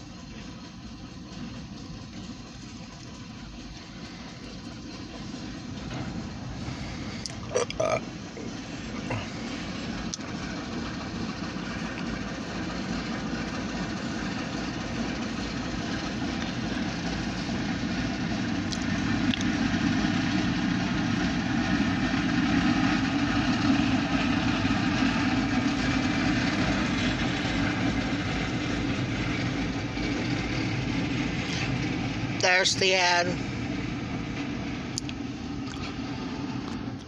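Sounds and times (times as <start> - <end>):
diesel engine running: 0.0 - 37.0
train wheels rumbling on rails: 0.0 - 37.0.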